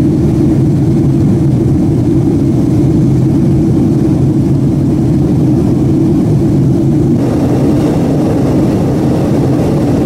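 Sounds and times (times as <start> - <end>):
jet airliner cabin rumble: 0.0 - 10.0.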